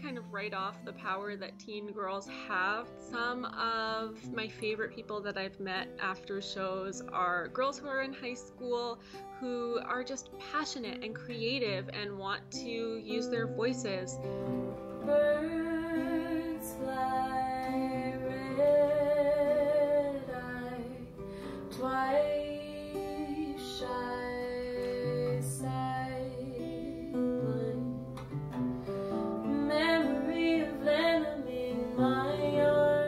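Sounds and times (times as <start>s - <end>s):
woman singing: 0.0s - 14.3s, 15.0s - 28.2s, 29.3s - 33.0s
strummed acoustic guitar: 0.0s - 33.0s.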